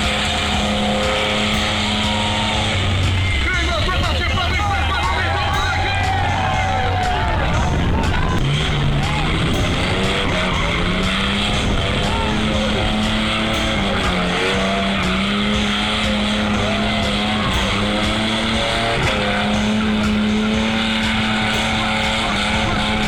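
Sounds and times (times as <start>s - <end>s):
car engine at high revs: 0.0s - 23.0s
tyres squealing: 0.0s - 23.0s.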